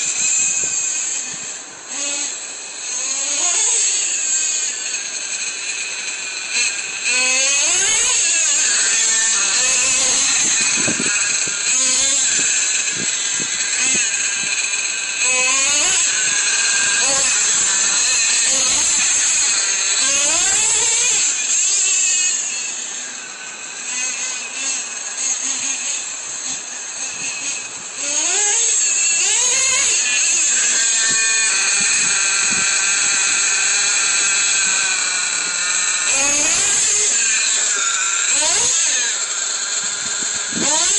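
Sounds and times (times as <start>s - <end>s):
rc truck nitro engine whining: 0.0s - 40.9s.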